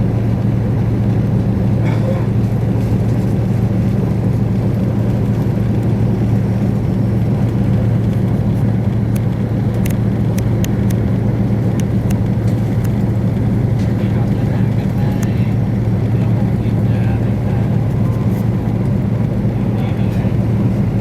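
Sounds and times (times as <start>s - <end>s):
low hum: 0.0s - 21.0s
train rumble from inside coach: 0.0s - 21.0s.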